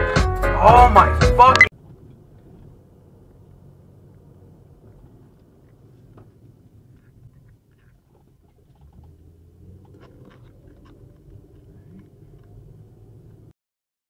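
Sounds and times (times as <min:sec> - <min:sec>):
car engine and tyres rumble: 0:00.0 - 0:13.5
light clicks and rattles: 0:01.8 - 0:13.5.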